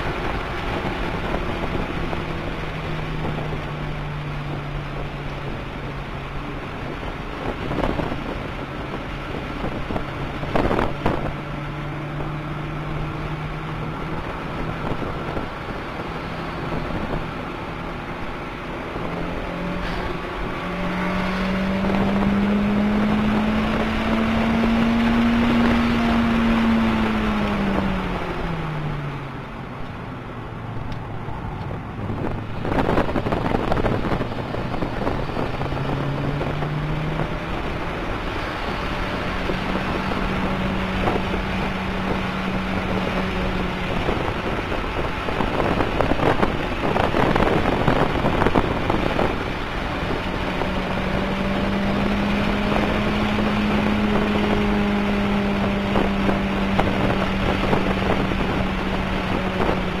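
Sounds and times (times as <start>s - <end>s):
car engine accelerating: 0.0s - 60.0s
road and wind noise: 0.0s - 60.0s.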